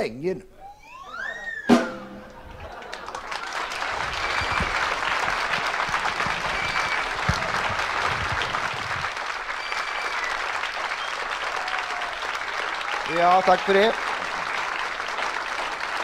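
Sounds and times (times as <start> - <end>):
audience applauding: 2.2 - 16.0.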